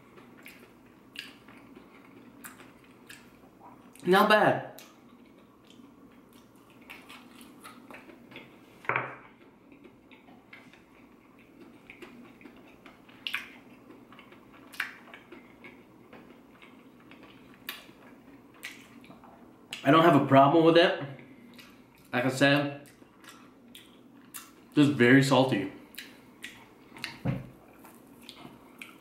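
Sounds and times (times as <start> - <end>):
person chewing crunchy food: 0.0 - 4.0, 4.8 - 19.8, 22.8 - 24.7, 25.8 - 29.0.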